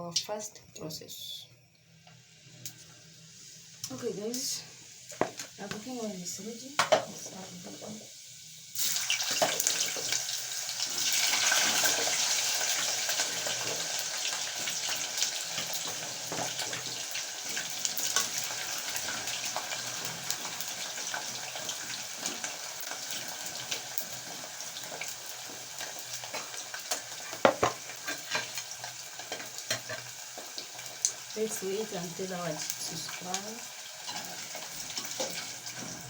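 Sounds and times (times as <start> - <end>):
oil sizzling and bubbling: 1.8 - 36.0.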